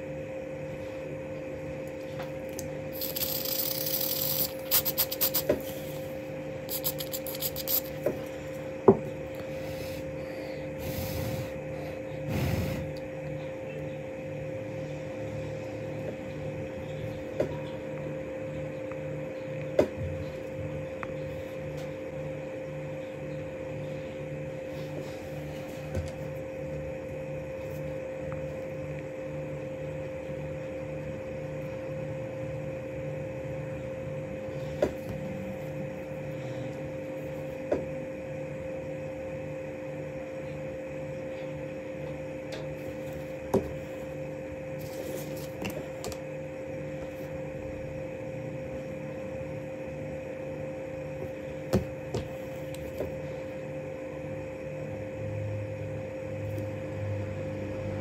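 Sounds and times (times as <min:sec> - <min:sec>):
machine humming and throbbing: 0:00.0 - 0:58.0.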